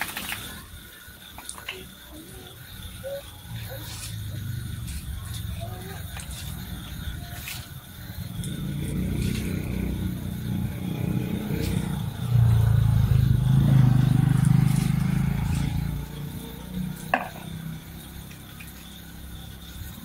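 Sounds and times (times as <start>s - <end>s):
vehicle engine running: 2.1s - 20.0s.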